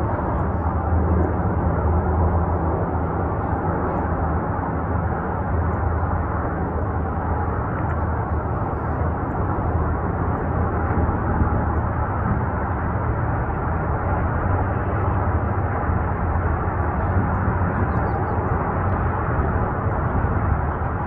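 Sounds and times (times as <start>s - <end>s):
distant helicopters rumbling: 0.0s - 21.0s.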